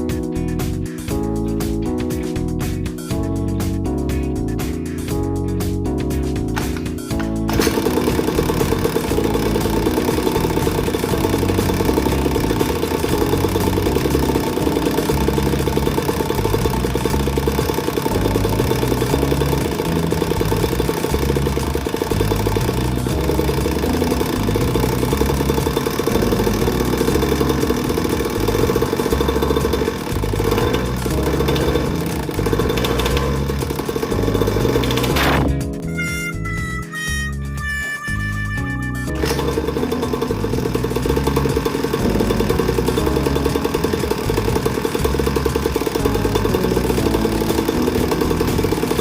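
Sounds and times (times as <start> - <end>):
small engine revving: 7.5 - 36.7, 38.1 - 49.0.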